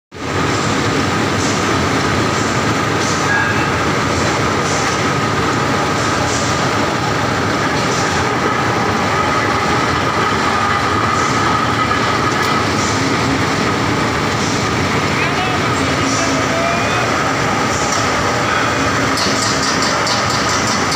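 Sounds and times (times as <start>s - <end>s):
machinery whine: 0.2s - 20.9s
rolling mill machinery din: 0.2s - 20.9s.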